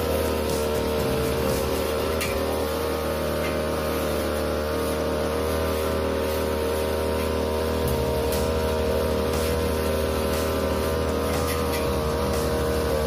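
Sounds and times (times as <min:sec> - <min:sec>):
brush cutter engine running: 0:00.0 - 0:13.0.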